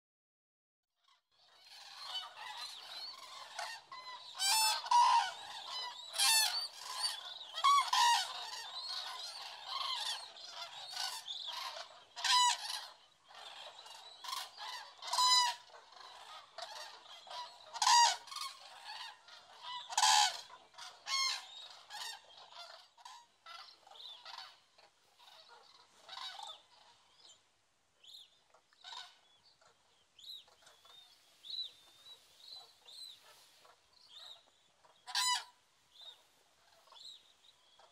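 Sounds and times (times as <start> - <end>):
cranes trumpeting calls: 1.5 - 27.1, 28.8 - 29.3, 30.4 - 37.2.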